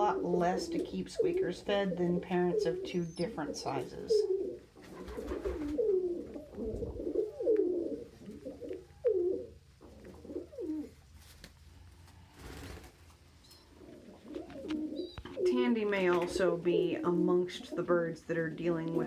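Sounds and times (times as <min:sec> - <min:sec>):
pigeons cooing: 0:00.0 - 0:11.0, 0:11.8 - 0:19.0.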